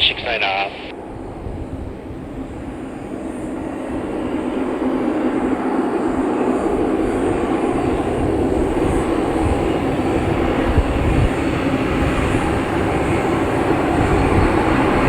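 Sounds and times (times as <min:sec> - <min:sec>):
turboprop engines and propellers: 0:00.0 - 0:15.0.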